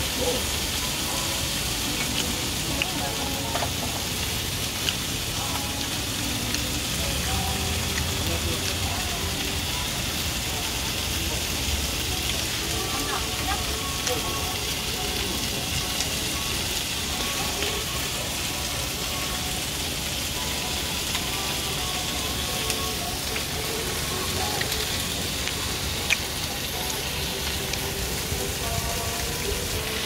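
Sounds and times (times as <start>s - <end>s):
steady hissing noise: 0.0s - 30.0s.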